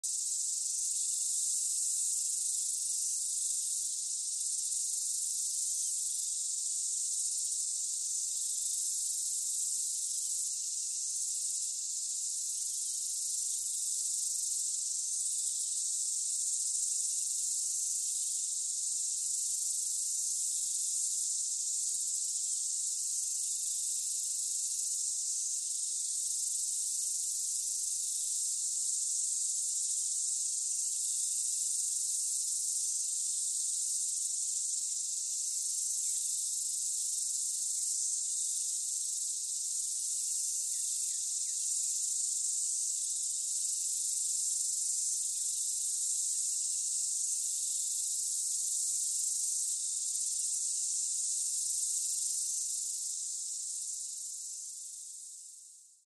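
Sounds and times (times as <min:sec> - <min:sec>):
cicadas buzzing: 0:00.1 - 0:55.6.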